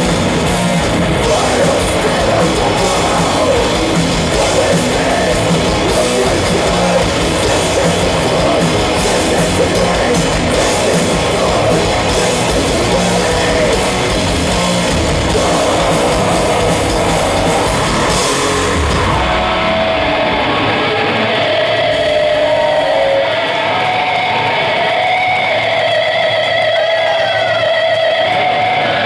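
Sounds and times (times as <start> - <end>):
electric guitar sustained notes: 0.0 - 29.0
heavy metal band playing: 0.0 - 29.0.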